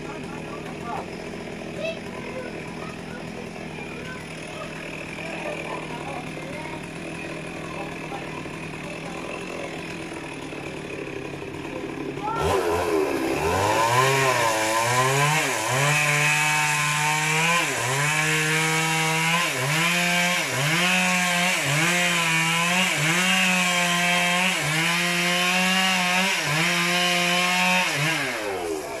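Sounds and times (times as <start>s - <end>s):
chainsaw cutting tree trunk: 0.0s - 29.0s.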